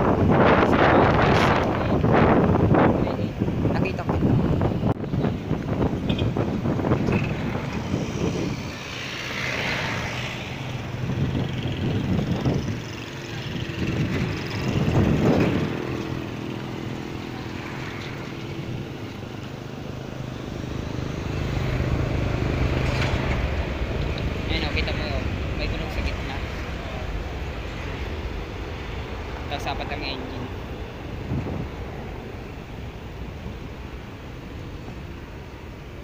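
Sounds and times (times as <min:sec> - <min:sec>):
distant jet engines: 0:00.0 - 0:36.0.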